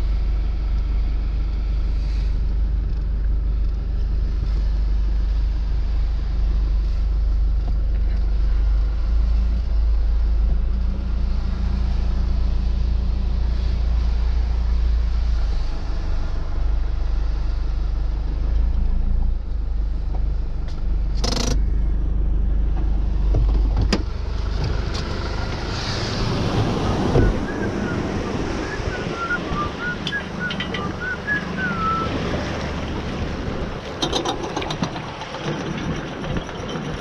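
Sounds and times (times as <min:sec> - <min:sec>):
engine running low rumble: 0:00.0 - 0:37.0.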